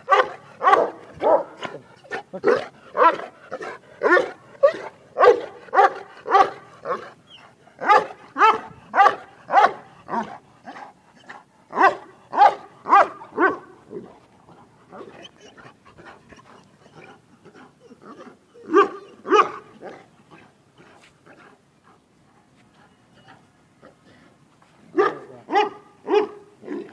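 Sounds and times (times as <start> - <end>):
large dog barking: 0.0 - 20.5, 24.9 - 26.9.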